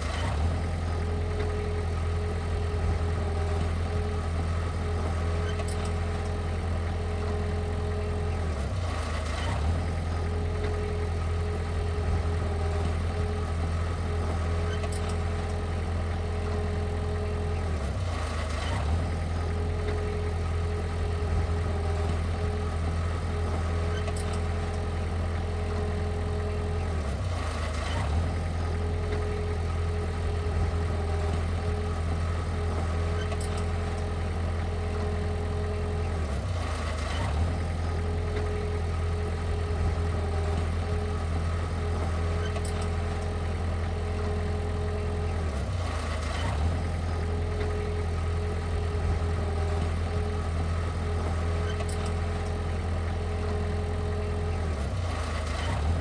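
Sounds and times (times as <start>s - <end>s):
heavy equipment engine running: 0.0s - 56.0s.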